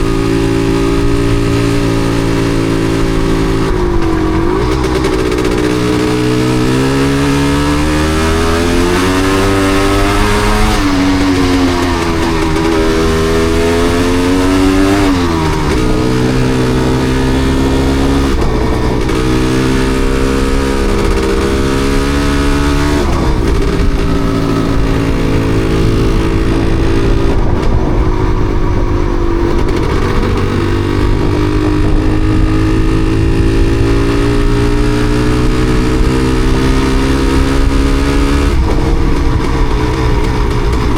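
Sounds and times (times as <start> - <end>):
two-stroke motorbike engine revving: 0.0 - 40.9.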